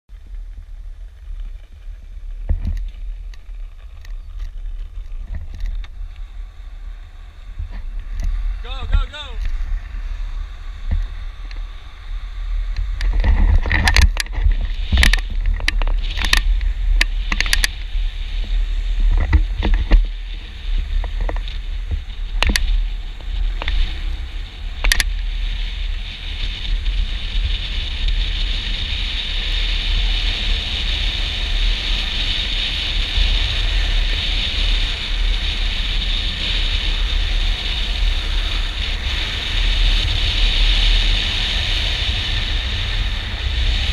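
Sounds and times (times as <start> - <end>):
longboard wheels rolling on asphalt: 0.0 - 43.9
wind rumbling on microphone: 0.0 - 43.9.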